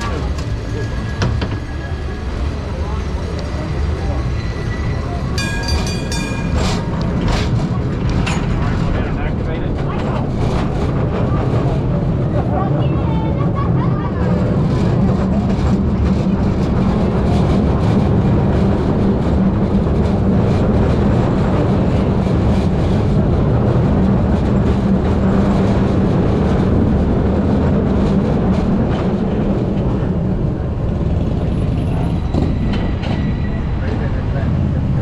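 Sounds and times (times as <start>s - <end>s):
streetcar rumbling on rails: 0.0s - 35.0s.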